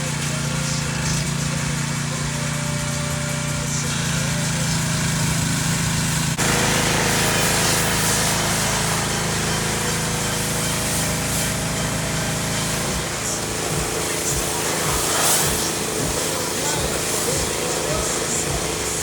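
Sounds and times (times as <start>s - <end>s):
pressure washer spray hissing: 0.0s - 19.0s
small engine running: 0.0s - 19.0s.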